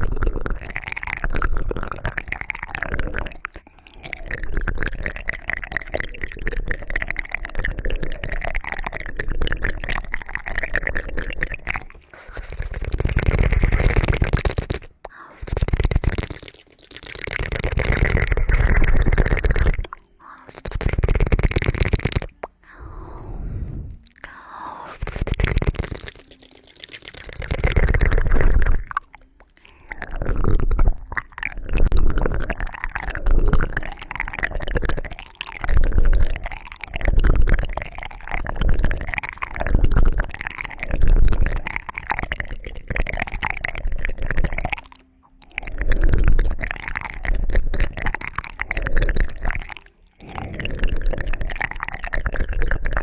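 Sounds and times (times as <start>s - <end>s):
wet squishing against microphone: 0.0s - 53.0s.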